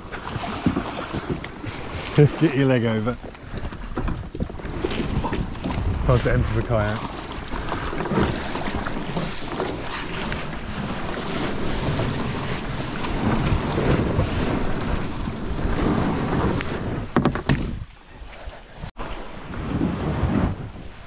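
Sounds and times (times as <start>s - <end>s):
small waves washing on shore: 0.0s - 21.0s
wind buffeting microphone: 1.6s - 21.0s.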